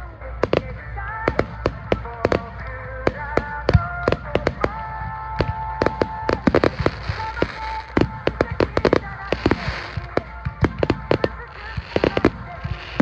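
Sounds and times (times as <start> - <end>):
fireworks bangs and crackles: 0.0 - 13.0
hissing crackle: 0.0 - 13.0.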